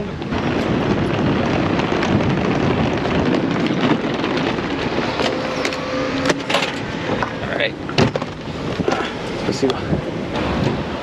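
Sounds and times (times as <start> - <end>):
suitcase wheels rolling on asphalt: 0.0 - 11.0.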